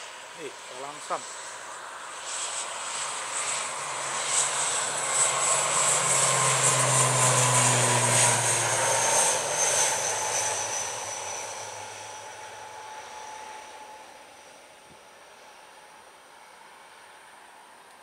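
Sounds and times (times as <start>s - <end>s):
turboprop airliner taking off: 0.0s - 17.8s
high turbine whine: 0.0s - 18.0s
low propeller drone: 0.0s - 18.0s.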